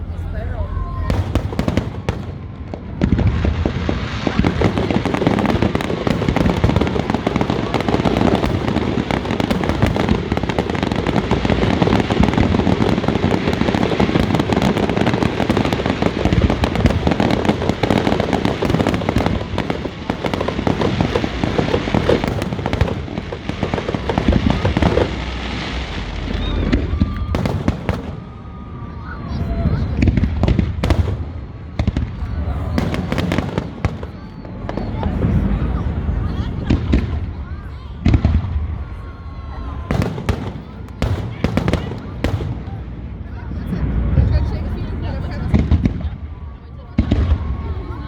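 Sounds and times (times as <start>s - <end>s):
fireworks bangs and crackling: 0.0s - 48.0s.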